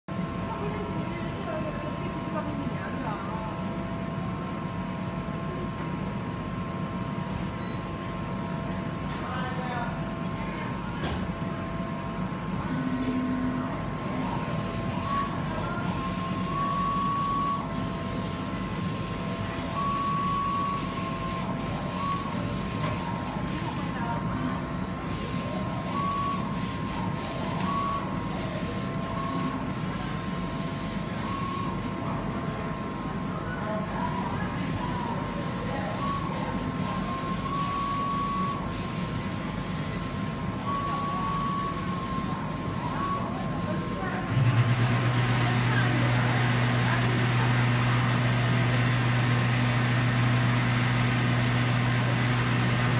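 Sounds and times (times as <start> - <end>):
low mechanical hum: 0.1 - 52.9.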